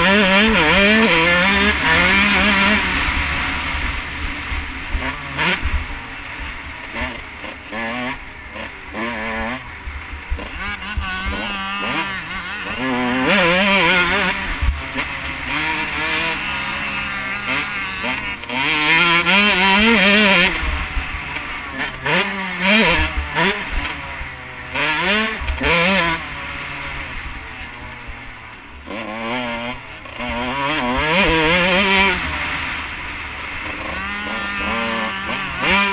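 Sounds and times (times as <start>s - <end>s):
motocross bike engine revving: 0.0s - 35.9s.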